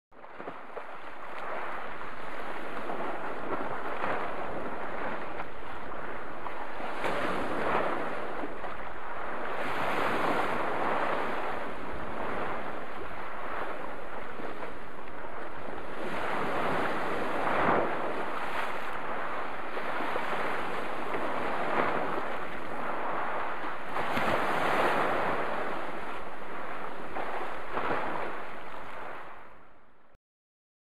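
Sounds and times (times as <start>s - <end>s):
waves breaking over rocks: 0.2s - 29.6s.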